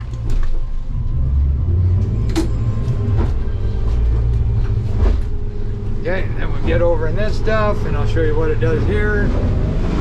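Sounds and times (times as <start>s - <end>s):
boat engine and hull rumble: 0.0s - 10.0s.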